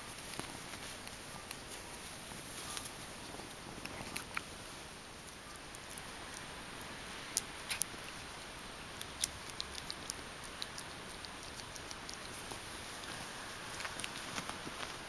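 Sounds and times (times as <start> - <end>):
ferret licking and nibbling clicks: 0.1 - 1.9, 2.8 - 4.5, 5.2 - 15.0.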